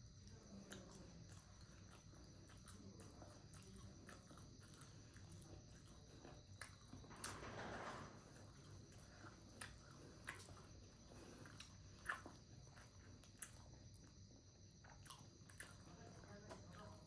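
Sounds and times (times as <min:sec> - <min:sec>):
faint chewing of dumplings: 0:00.0 - 0:17.0.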